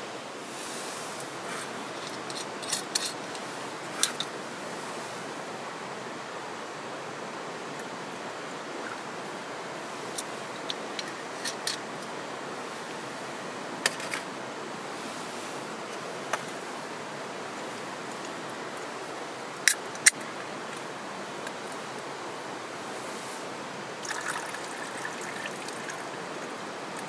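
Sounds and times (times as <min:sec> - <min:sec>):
stream water flowing: 0:00.0 - 0:27.0.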